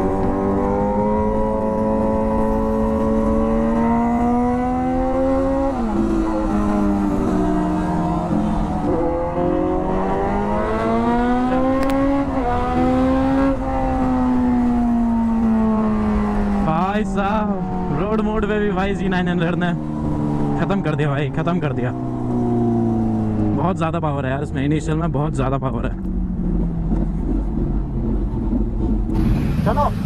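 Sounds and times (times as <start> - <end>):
motorcycle accelerating through gears: 0.0 - 30.0.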